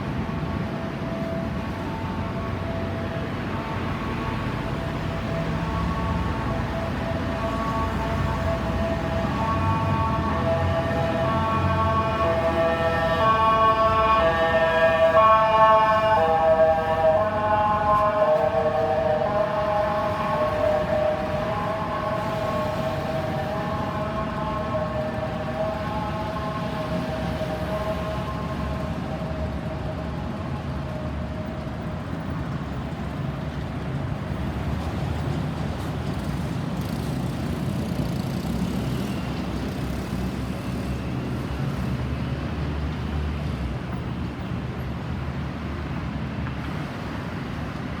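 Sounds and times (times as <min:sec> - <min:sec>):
ambulance siren: 0:00.0 - 0:33.3, 0:36.2 - 0:42.4
road traffic rumble: 0:00.0 - 0:48.0.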